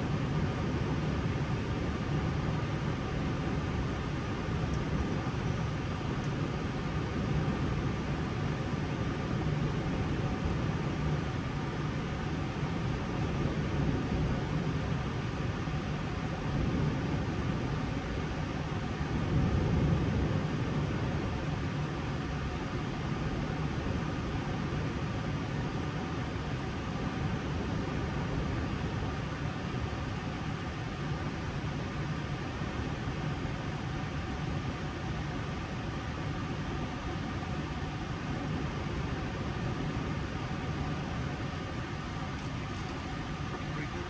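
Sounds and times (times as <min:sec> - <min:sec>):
airliner cockpit rumble and hiss: 0:00.0 - 0:44.0.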